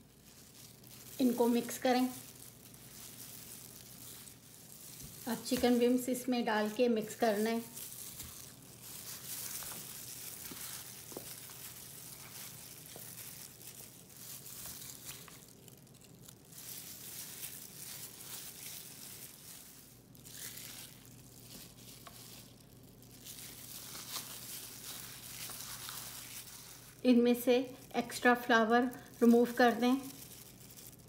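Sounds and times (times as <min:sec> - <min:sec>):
flour rustling in bowl: 0:00.0 - 0:31.0
plastic gloves crinkling: 0:00.0 - 0:31.0.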